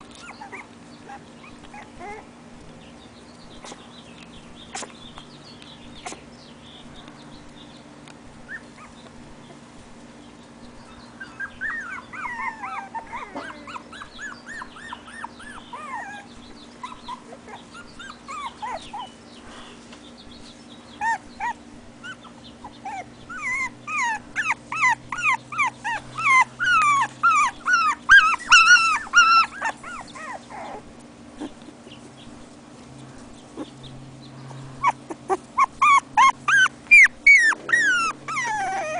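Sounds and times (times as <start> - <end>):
puppies whimpering: 0.0 - 3.8, 8.4 - 9.6, 10.6 - 38.9.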